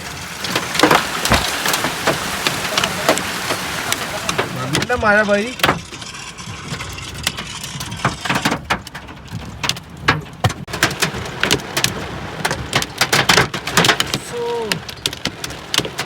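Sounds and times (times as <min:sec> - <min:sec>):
hailstones striking hard surfaces: 0:00.0 - 0:16.0.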